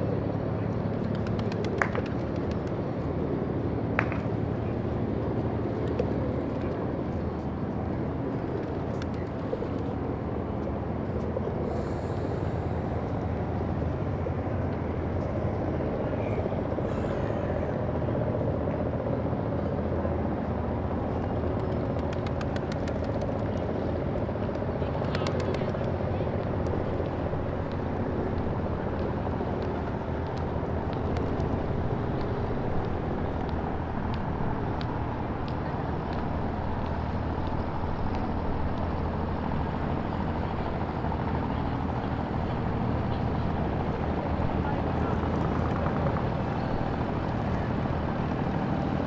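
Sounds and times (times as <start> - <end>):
engine droning: 0.0 - 49.0.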